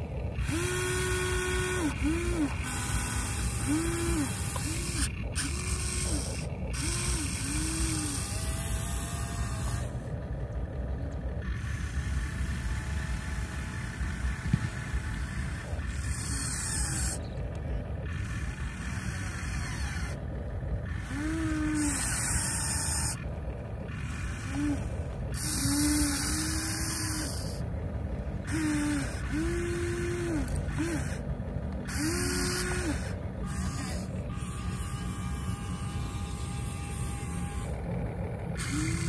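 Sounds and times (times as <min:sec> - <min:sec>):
small electric motors whining: 0:00.0 - 0:39.0
steady low rumble: 0:00.0 - 0:39.0.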